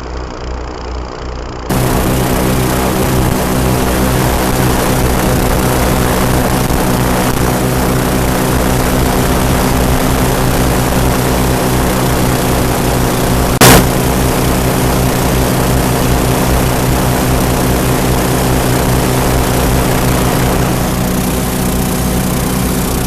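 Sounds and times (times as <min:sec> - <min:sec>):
airboat engines running: 0:00.3 - 0:23.0.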